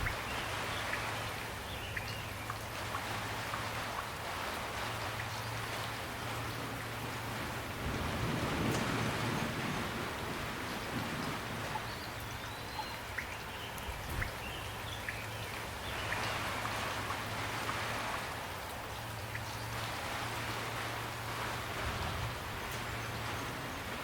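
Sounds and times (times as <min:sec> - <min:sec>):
raindrops ticking: 0:00.0 - 0:21.3.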